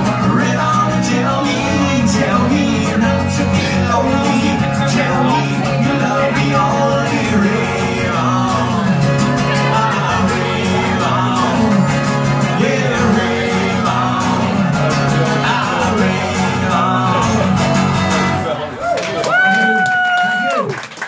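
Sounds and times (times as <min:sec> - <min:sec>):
man singing into microphone: 0:00.0 - 0:17.8
acoustic guitars strummed: 0:00.0 - 0:18.7.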